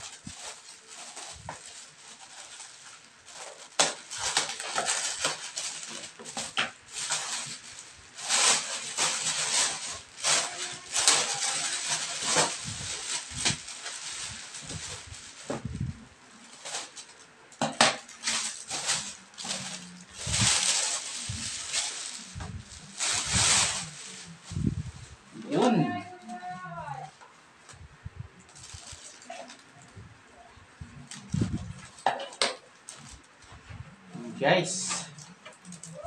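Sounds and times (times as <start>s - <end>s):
plastic packaging crinkling: 0.0s - 27.3s, 28.4s - 30.0s, 31.0s - 33.5s, 34.9s - 36.0s.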